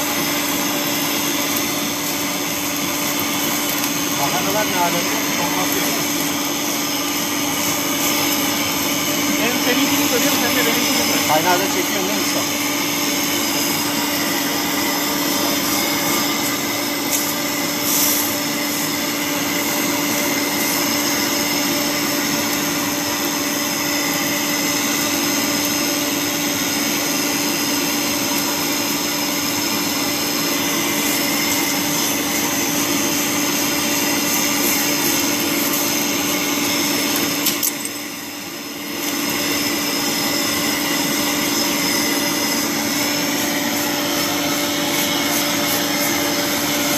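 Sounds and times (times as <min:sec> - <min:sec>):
welding hiss: 0:00.0 - 0:46.9
welding machine hum: 0:00.0 - 0:46.9.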